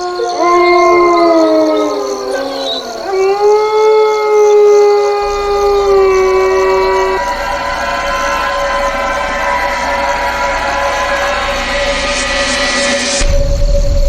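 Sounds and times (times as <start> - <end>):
dogs howling: 0.0 - 12.5.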